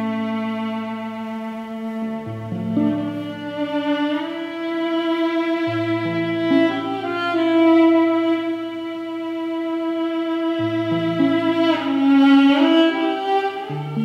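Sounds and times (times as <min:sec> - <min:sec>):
high bowed cello note: 0:00.0 - 0:14.0.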